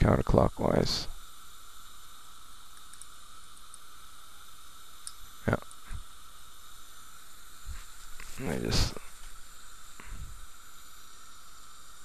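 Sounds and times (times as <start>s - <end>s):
analog video tape hiss: 0.0s - 12.0s.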